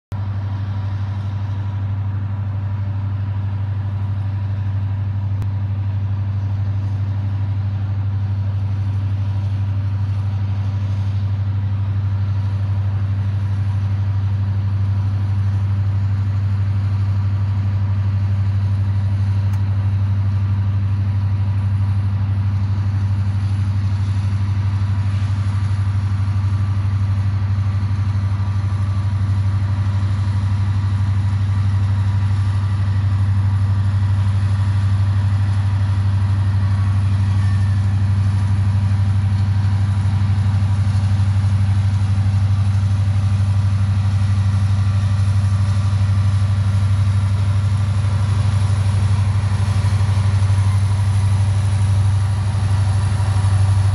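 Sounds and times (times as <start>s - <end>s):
diesel locomotive engine droning: 0.0s - 53.9s.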